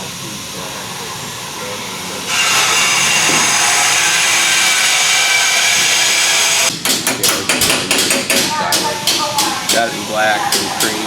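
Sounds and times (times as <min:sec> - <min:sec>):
workshop tool hissing: 0:00.0 - 0:11.0.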